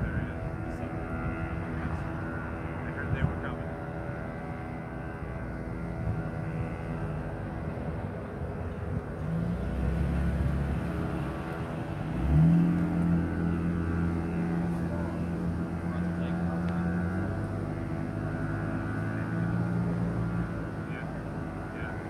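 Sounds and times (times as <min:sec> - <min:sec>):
higher engine tone: 0:00.0 - 0:22.0
steady engine drone: 0:00.0 - 0:22.0.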